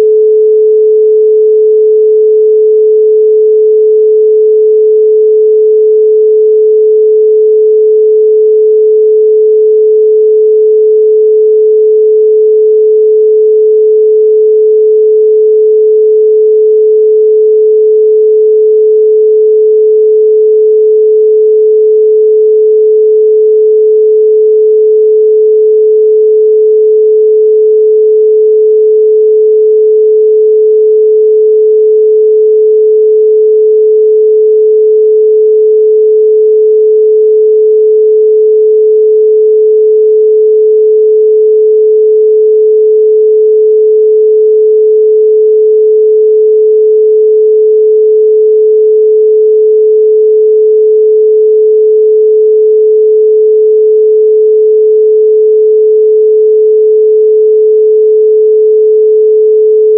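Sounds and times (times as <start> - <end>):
pure sine tone: 0.0 - 59.9.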